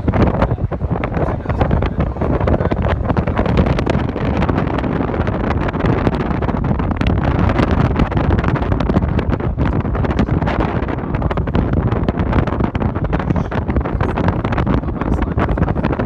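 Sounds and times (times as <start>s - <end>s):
car rumbling on road: 0.0s - 16.0s
wind buffeting microphone: 0.0s - 16.0s.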